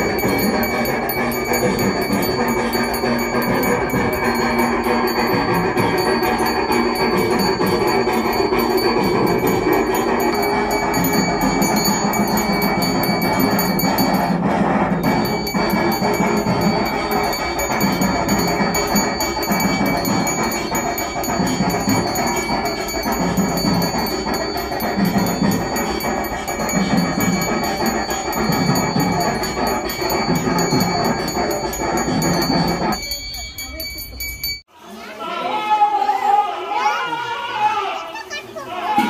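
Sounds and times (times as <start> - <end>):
bell ringing rapidly: 0.0 - 34.7.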